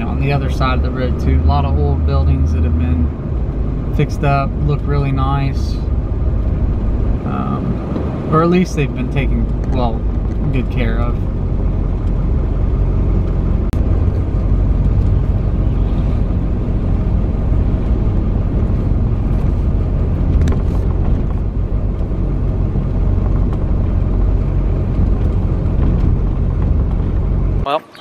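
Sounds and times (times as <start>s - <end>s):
car cabin road and engine rumble: 0.0s - 28.0s.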